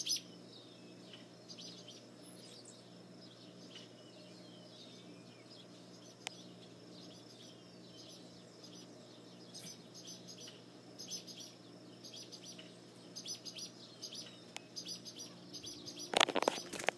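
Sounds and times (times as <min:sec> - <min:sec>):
small birds chirping: 0:00.0 - 0:16.9
steady low hum: 0:00.0 - 0:16.9.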